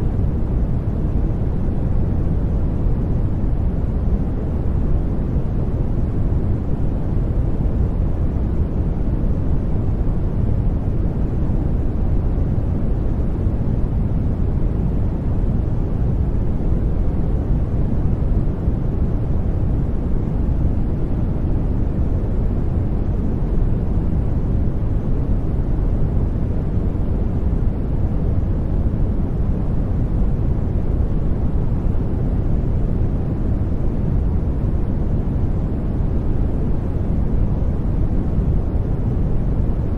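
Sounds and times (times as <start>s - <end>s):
low rumbling hiss noise: 0.0s - 39.9s.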